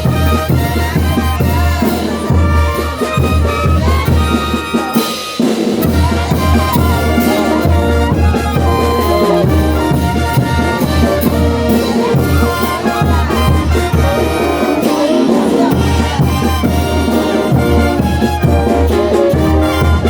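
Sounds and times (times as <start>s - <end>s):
bass drum beat: 0.0s - 20.0s
trumpets and trombones: 0.0s - 20.0s.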